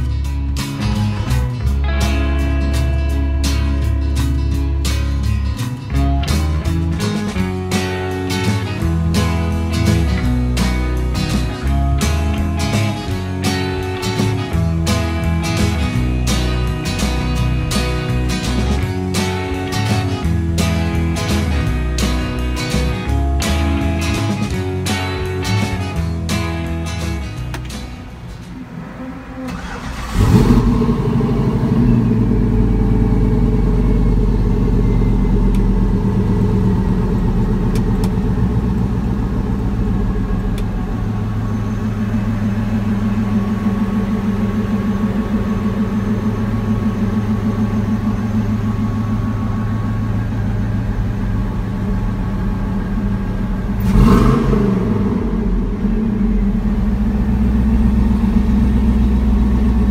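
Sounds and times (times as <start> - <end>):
pickup engine idling: 0.0 - 59.9.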